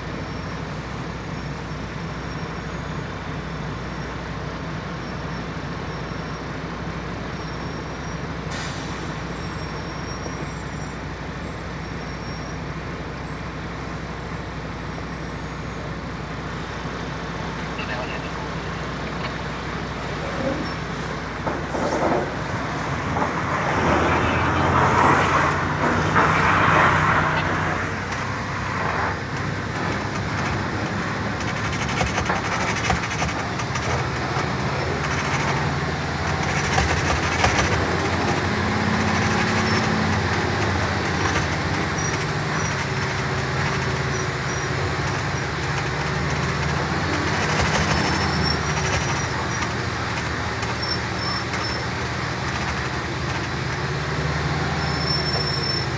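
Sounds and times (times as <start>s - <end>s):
road and cab noise: 0.0s - 55.9s
truck engine running: 0.0s - 55.9s.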